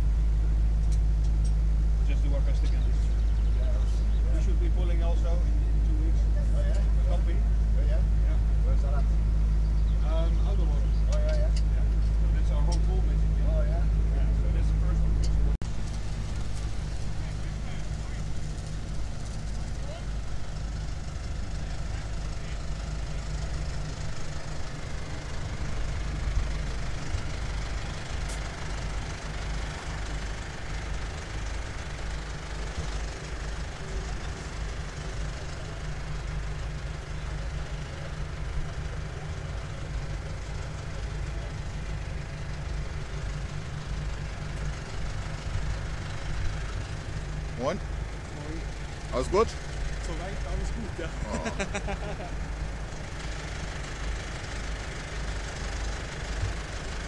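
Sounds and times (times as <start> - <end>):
tractor engines idling: 0.0 - 57.0.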